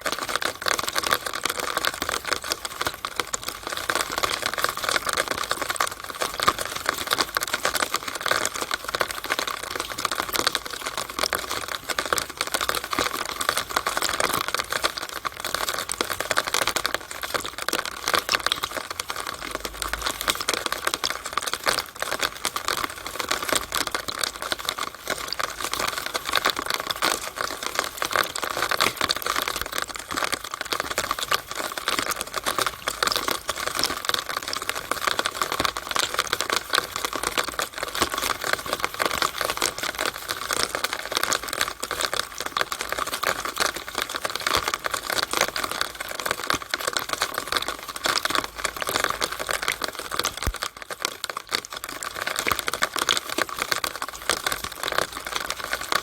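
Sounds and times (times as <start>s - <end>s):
rainwater dripping in a downspout: 0.0s - 56.0s.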